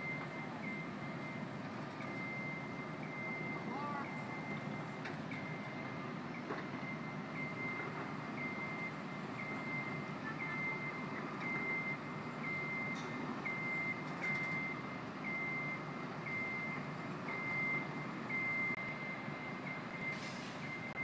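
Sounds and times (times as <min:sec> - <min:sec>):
city background hum: 0:00.0 - 0:21.0.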